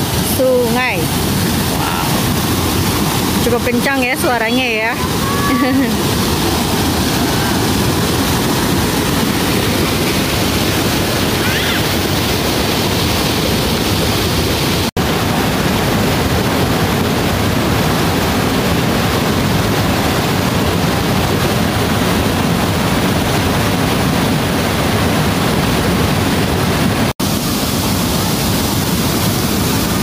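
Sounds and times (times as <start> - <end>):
stream rushing over boulders: 0.0 - 30.0.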